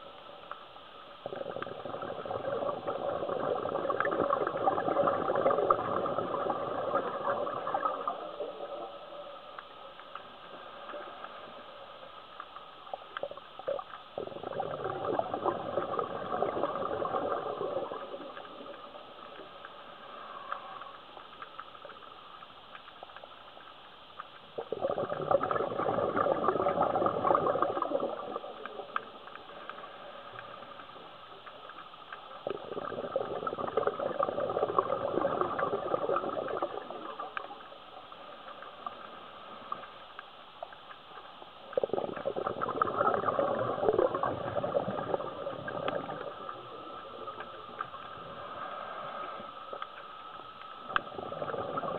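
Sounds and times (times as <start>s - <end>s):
scuba regulator exhaust bubbling: 1.2s - 23.2s, 24.2s - 51.9s.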